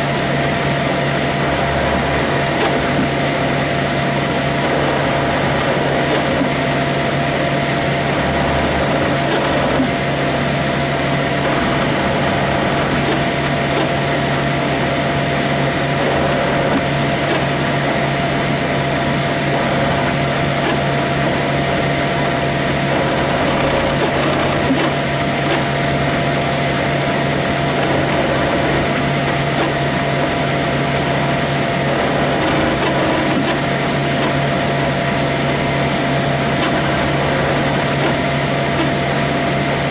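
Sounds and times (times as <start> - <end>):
printer fans and motors humming: 0.0 - 39.9.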